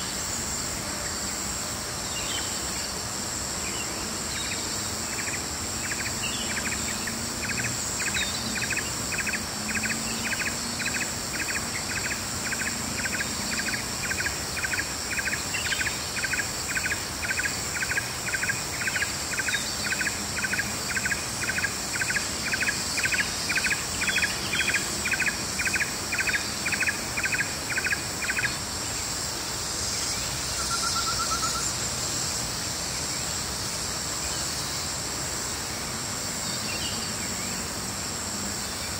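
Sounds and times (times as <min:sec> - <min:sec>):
high insect chorus: 0:00.0 - 0:38.9.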